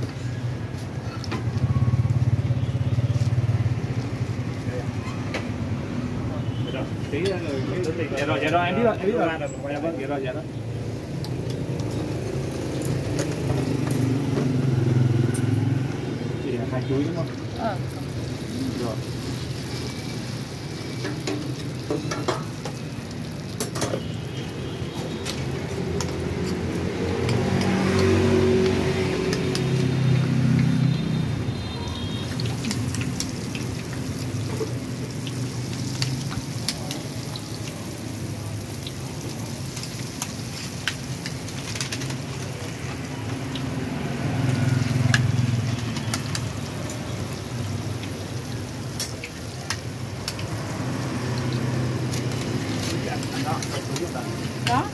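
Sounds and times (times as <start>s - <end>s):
oil sizzling with crackles: 0.0s - 54.9s.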